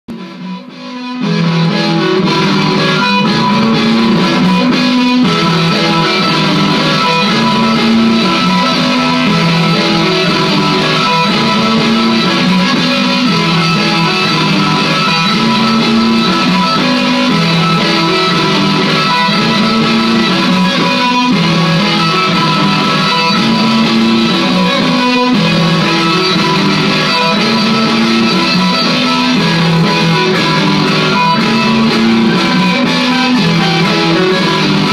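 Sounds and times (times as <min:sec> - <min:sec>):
looped electric guitar phrase: 0:00.1 - 0:34.9
picked electric guitar notes: 0:00.1 - 0:34.9.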